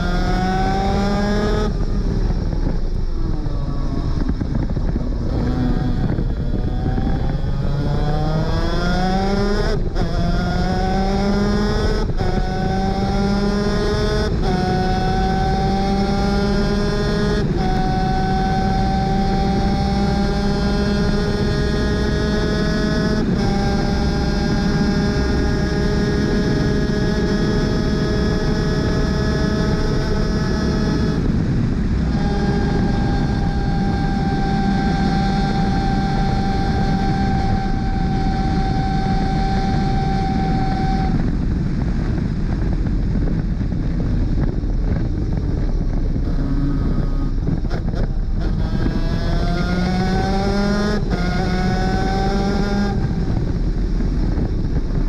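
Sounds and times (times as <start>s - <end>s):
high-pitched kart engine: 0.0s - 55.0s.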